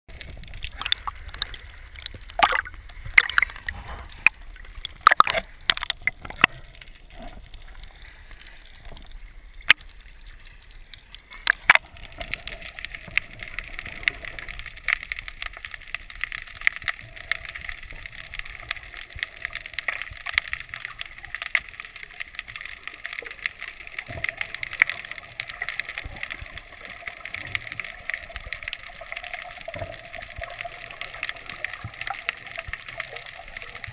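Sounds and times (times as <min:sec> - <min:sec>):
fizzing crackle with faint ticks: 0:00.1 - 0:33.9
underwater knocks and clicks: 0:00.1 - 0:33.9.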